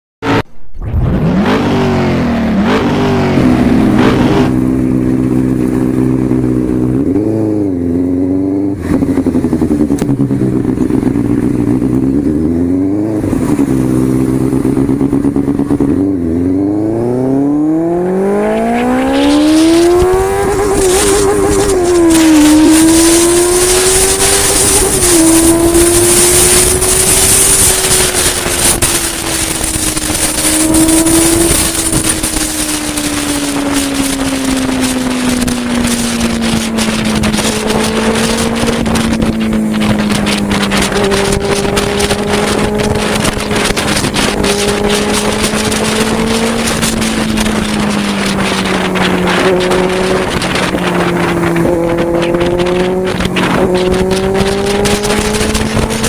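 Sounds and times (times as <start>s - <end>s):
motorcycle engine revving: 0.2s - 56.0s
wind rushing over microphone: 0.2s - 56.0s.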